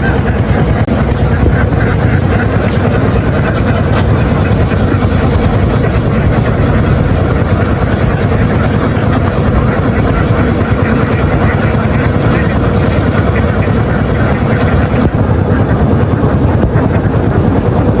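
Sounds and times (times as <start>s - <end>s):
engine running steadily: 0.0s - 18.0s
faint steady whine: 0.8s - 18.0s.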